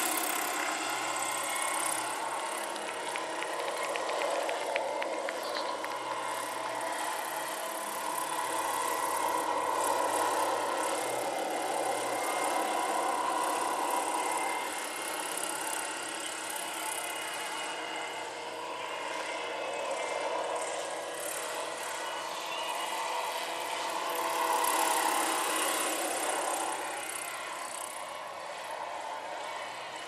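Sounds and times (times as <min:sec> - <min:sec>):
model helicopter rotor whir: 0:00.0 - 0:30.0.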